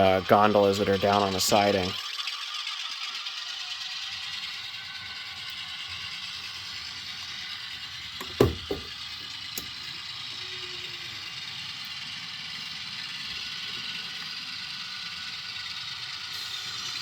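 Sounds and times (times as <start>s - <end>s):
diesel engine sound from small speakers: 0.0s - 17.0s.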